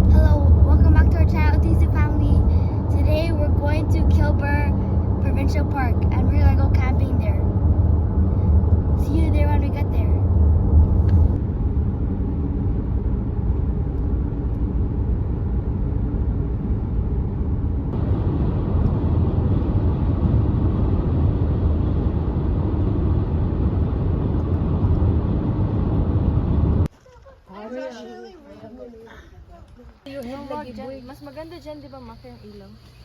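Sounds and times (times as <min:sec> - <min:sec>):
vehicle road noise rumble: 0:00.0 - 0:27.2.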